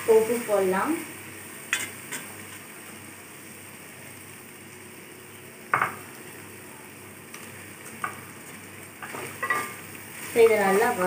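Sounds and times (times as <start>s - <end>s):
masala sizzling in a pan: 0.0s - 11.0s.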